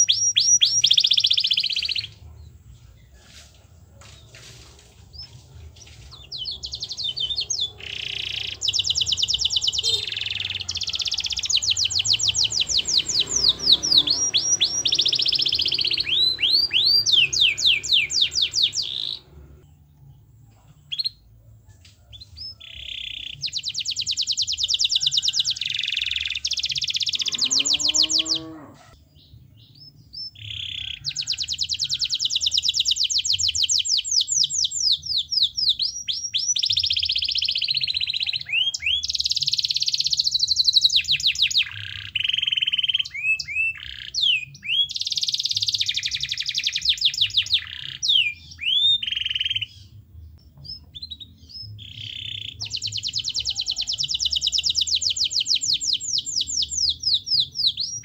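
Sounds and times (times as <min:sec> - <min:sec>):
canary singing trills: 0:00.0 - 0:03.4, 0:04.0 - 0:58.0.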